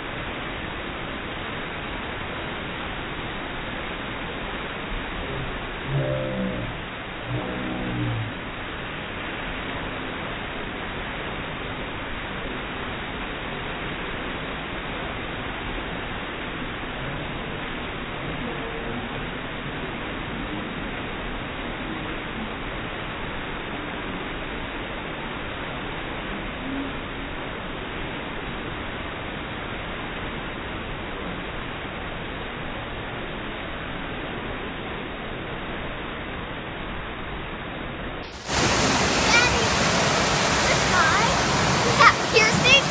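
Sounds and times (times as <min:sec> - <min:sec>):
rushing water in water park: 0:00.0 - 0:42.9.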